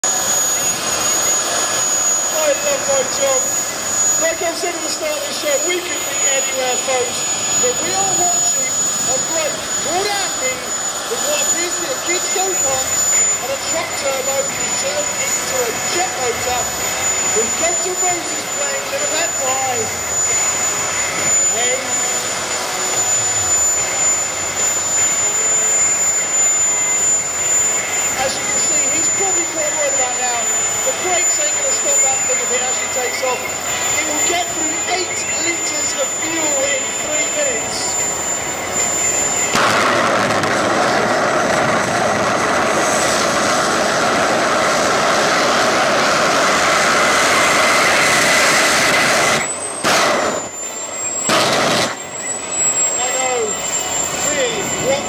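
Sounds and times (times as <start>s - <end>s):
jet engine running: 0.0s - 55.0s.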